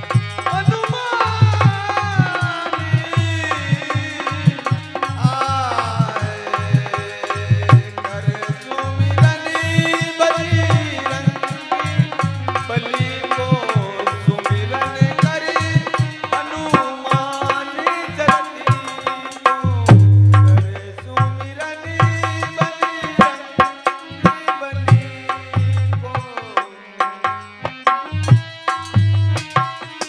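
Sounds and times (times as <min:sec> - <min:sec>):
hand drum rhythm: 0:00.0 - 0:30.0
harmonium reed tones: 0:00.0 - 0:30.0
man singing: 0:00.0 - 0:30.0.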